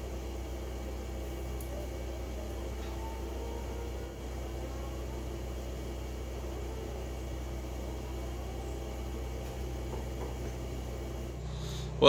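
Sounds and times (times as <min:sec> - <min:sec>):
low hum: 0:00.0 - 0:12.0
machine running: 0:00.0 - 0:12.0.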